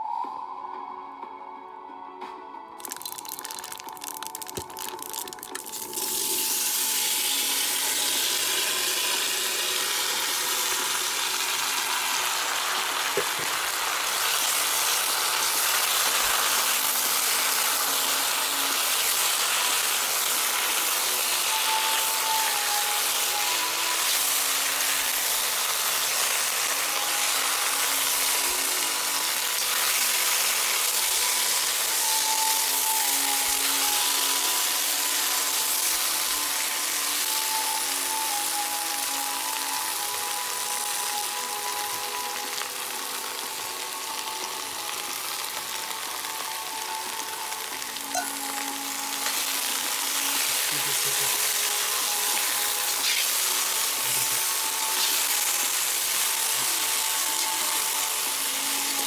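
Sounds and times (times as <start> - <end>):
potatoes sizzling in hot oil: 2.8 - 59.0.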